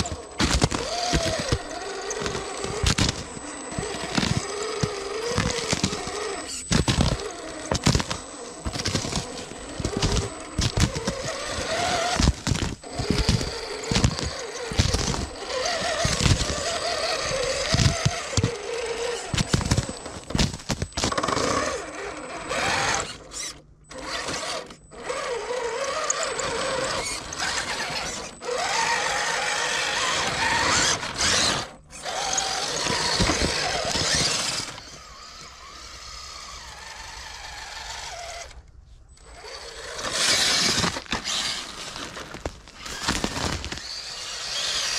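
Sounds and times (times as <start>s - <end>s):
tyres crunching on crusted snow: 0.0s - 38.5s, 39.2s - 44.9s
electric motor and gears whining: 0.0s - 44.9s.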